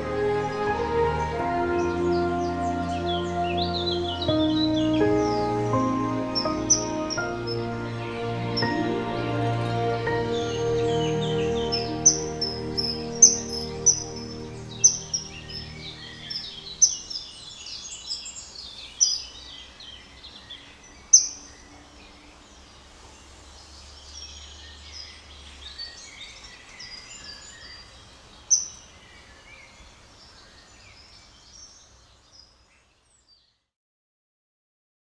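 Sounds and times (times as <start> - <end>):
songbirds chirping and trilling: 0.0 - 33.6.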